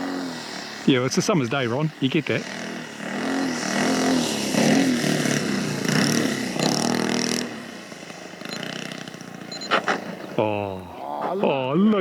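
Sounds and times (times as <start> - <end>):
model plane motor and propeller: 0.0 - 10.4.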